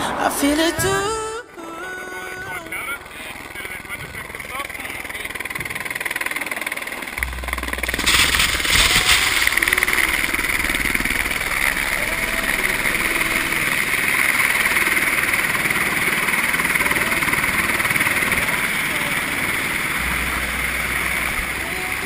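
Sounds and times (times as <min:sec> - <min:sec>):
helicopter turbine and rotor: 0:02.0 - 0:22.0.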